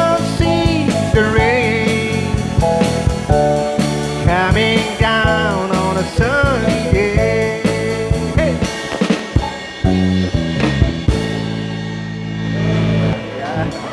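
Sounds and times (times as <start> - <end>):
rock band playing: 0.0 - 13.9.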